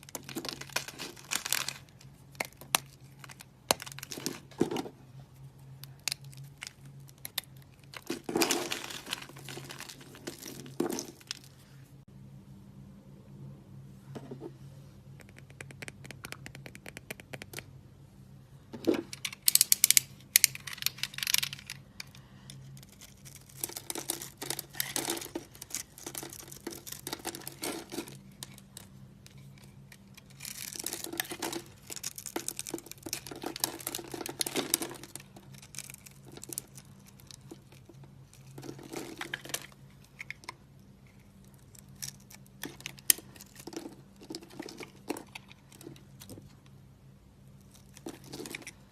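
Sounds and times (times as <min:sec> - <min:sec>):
dry soap crackling and scraping: 0:00.0 - 0:12.0, 0:19.4 - 0:46.8, 0:47.5 - 0:48.9.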